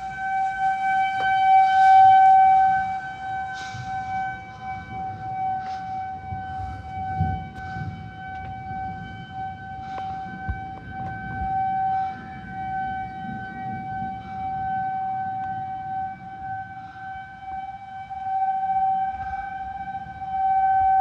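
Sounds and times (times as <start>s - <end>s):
rotating warning siren: 0.0s - 21.0s
wind and storm rumble: 0.0s - 21.0s.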